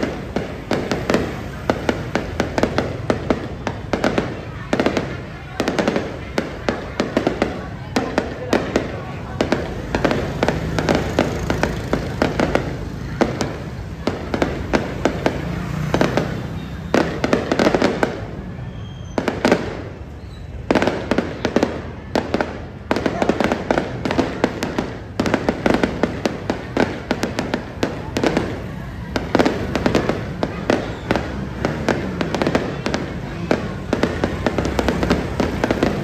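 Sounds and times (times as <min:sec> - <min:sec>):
fireworks popping and banging: 0:00.0 - 0:36.0.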